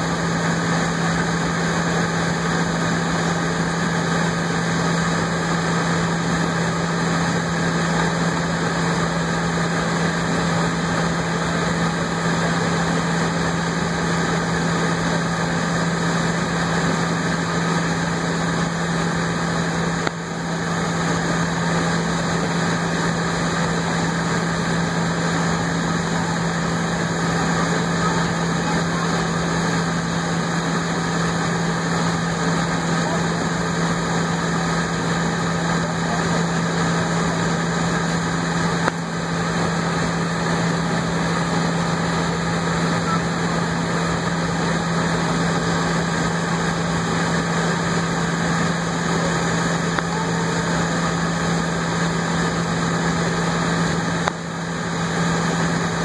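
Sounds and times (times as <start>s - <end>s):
jet engines idling in cabin: 0.0s - 56.0s.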